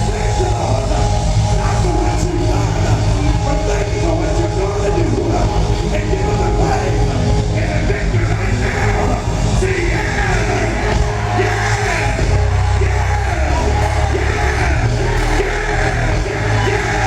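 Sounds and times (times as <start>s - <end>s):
heavy steady bass: 0.0s - 17.0s
live band playing: 0.0s - 17.0s
voices singing and yelling: 0.0s - 17.0s.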